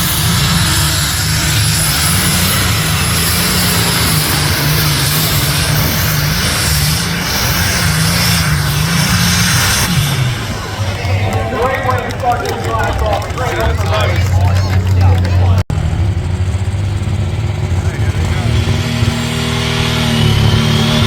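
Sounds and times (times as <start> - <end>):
vehicle engine at high power: 0.0 - 21.0.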